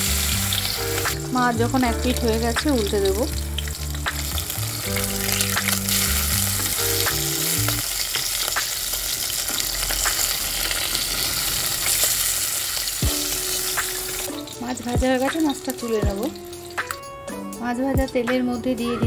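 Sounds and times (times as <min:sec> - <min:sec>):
fish sizzling in oil: 0:00.0 - 0:17.7.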